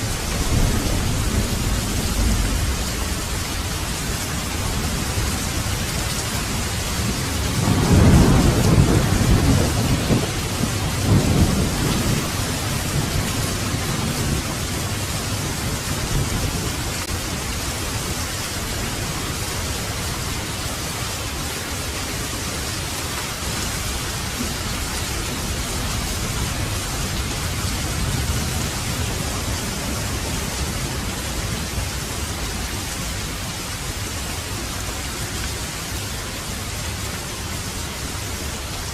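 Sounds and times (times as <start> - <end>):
thunder rumbling: 0.0 - 20.4, 23.4 - 34.3
heavy rain falling: 0.0 - 38.9.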